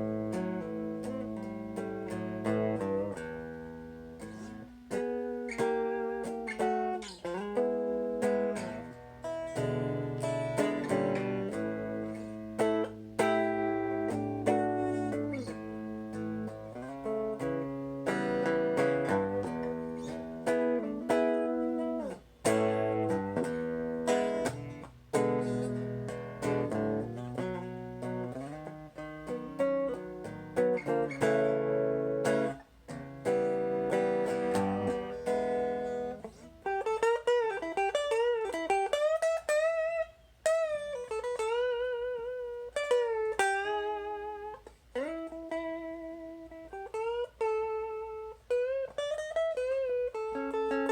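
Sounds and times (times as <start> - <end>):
electric guitar notes and chords: 0.0 - 50.9.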